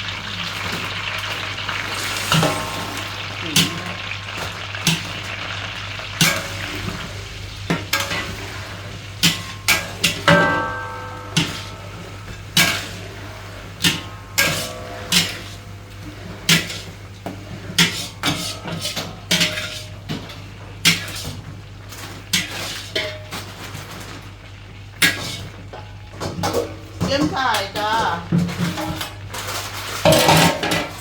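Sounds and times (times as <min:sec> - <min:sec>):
food frying in oil: 0:00.0 - 0:31.0
metal utensil scraping a wok: 0:00.3 - 0:07.1, 0:07.9 - 0:24.2, 0:25.0 - 0:25.7, 0:27.3 - 0:31.0.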